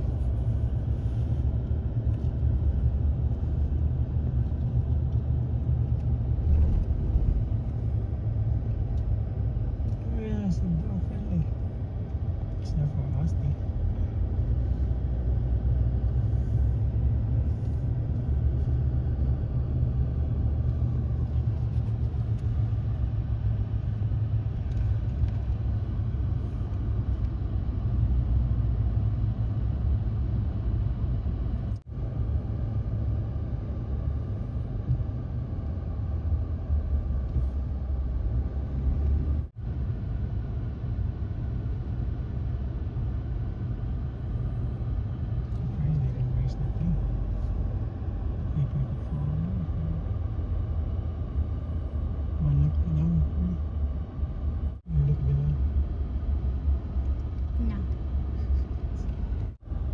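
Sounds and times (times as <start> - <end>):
road and engine rumble in car: 0.0 - 59.9.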